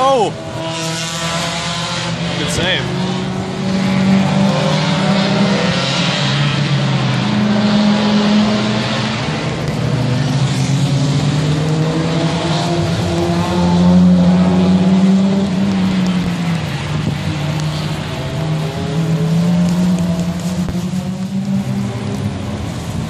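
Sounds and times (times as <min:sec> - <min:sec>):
race car engines passing: 0:00.0 - 0:23.0
tyres hissing on wet track: 0:00.0 - 0:23.0.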